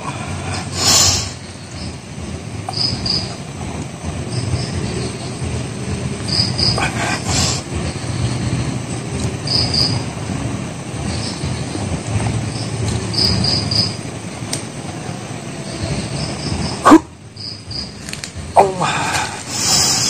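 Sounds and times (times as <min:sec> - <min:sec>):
crickets chirping: 0:00.0 - 0:20.0
low rumbling noise: 0:00.0 - 0:20.0.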